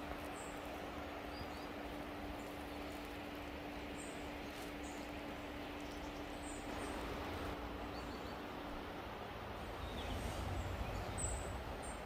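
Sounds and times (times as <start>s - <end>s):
outdoor background hiss: 0.0s - 12.0s
steady low hum: 0.0s - 12.0s.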